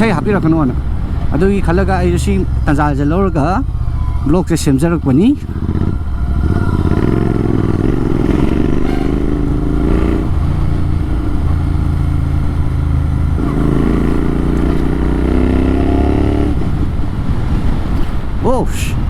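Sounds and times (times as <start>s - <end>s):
motorcycle accelerating: 0.0s - 18.4s.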